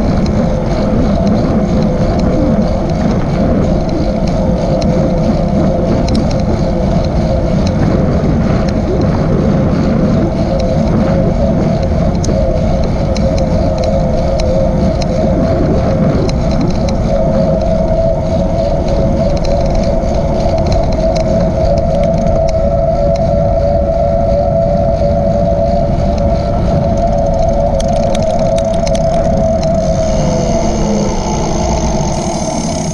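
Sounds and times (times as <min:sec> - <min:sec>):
wavering hum: 0:00.0 - 0:32.9
wind noise on microphone: 0:00.0 - 0:32.9.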